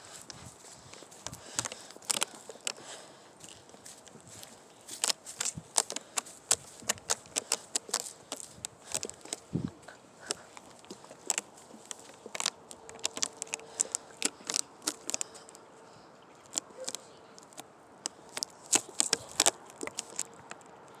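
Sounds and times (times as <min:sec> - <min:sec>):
plastic bottle crinkling: 0:00.0 - 0:15.6, 0:16.4 - 0:20.8.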